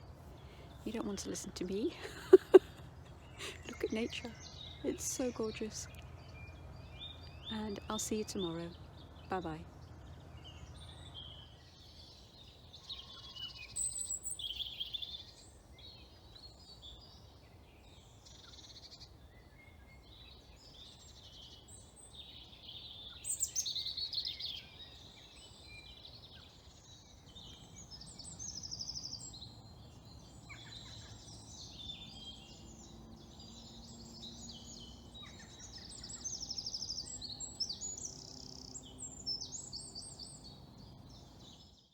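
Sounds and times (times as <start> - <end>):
faint low background rumble: 0.0 - 41.7
songbirds singing and chirping: 0.0 - 41.9.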